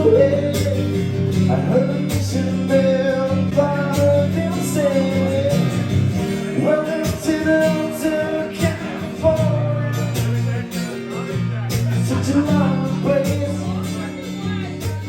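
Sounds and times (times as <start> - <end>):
song with guitar bass and drums: 0.0 - 15.0.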